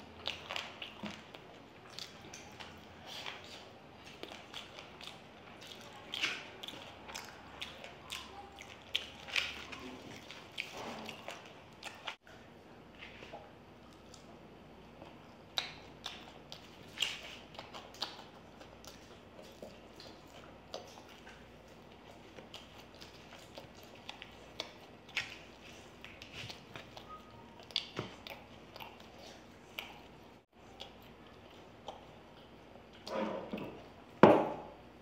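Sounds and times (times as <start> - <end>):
close chewing and mouth smacks: 0.0 - 34.2.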